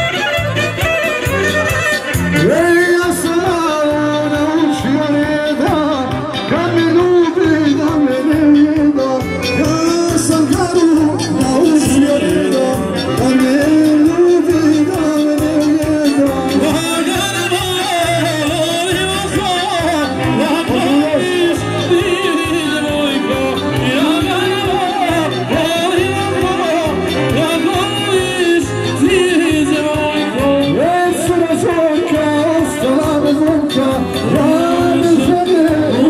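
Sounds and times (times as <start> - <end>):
steady bass beat: 0.4 - 36.0
person singing: 1.9 - 36.0.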